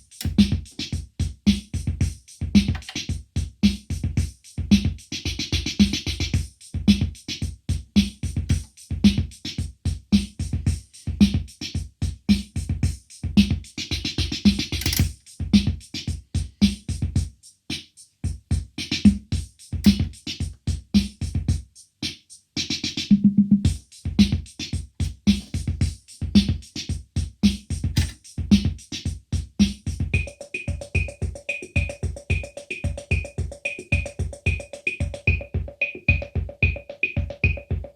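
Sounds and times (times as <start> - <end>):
drum machine beat: 0.0 - 37.9.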